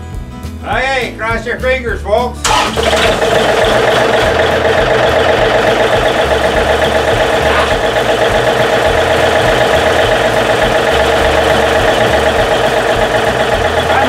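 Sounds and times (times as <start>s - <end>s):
tractor diesel engine idling: 2.4s - 14.0s.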